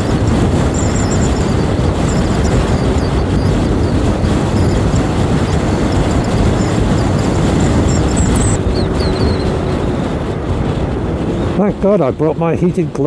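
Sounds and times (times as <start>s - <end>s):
motorcycle engine running: 0.0s - 11.8s
wind rushing over microphone: 0.0s - 13.0s.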